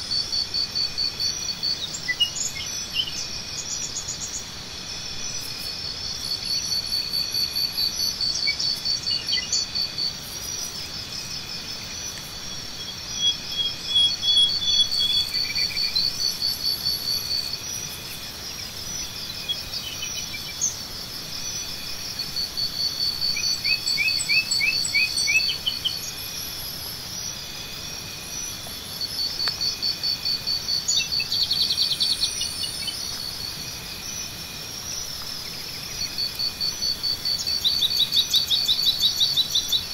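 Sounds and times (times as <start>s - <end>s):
insects chirping in pulsed trains: 0.0s - 39.9s.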